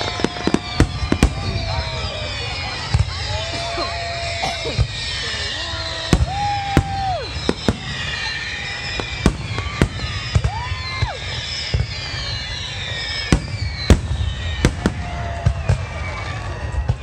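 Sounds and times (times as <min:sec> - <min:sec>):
firework bangs: 0:00.0 - 0:17.0
firework whistling and crackling: 0:00.0 - 0:17.0.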